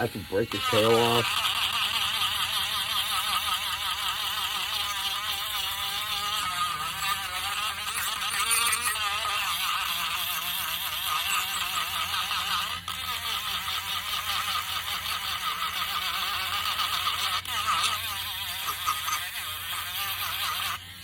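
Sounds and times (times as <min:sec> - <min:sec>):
electric sander running on wood: 0:00.0 - 0:21.0.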